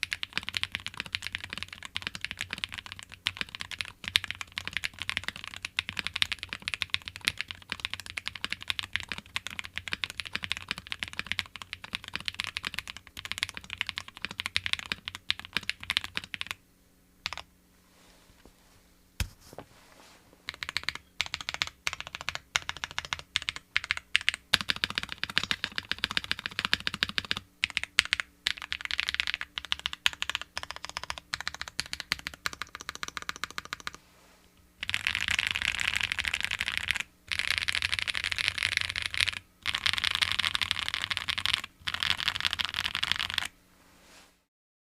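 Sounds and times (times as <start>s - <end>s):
mechanical keyboard typing: 0.0s - 16.6s, 17.2s - 17.5s, 20.5s - 34.0s, 34.8s - 43.5s.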